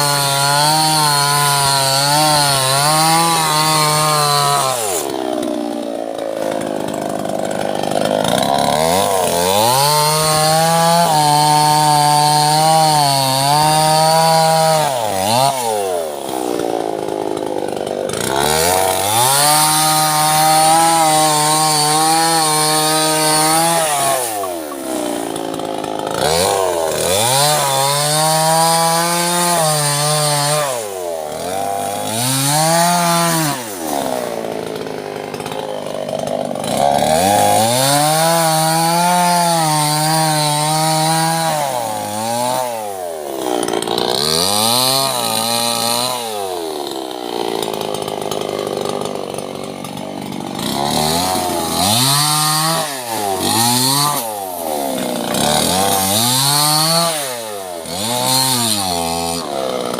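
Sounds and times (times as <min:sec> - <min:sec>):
chainsaw revving while cutting wood: 0:00.0 - 0:59.9.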